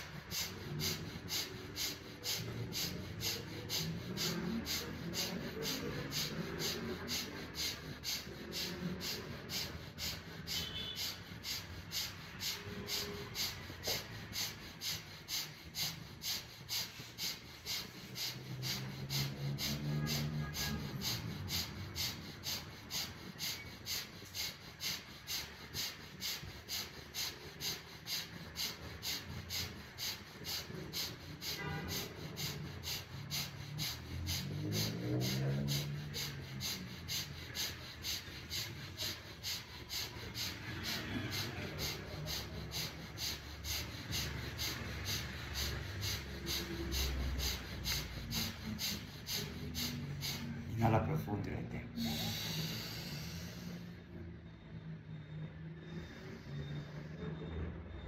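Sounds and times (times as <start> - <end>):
forceful breaths through nose: 0.0 - 50.8, 51.9 - 54.3.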